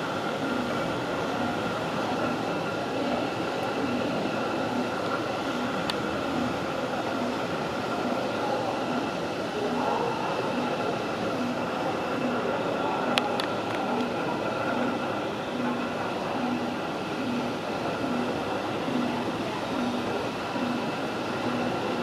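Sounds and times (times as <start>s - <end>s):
machine drone: 0.0s - 22.0s.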